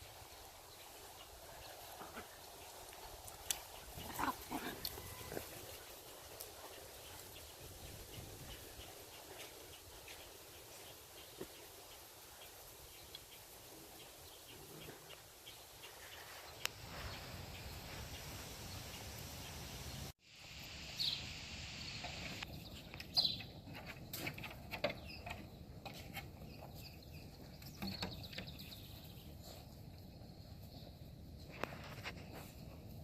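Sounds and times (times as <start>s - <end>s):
faint outdoor background noise: 0.0s - 33.0s.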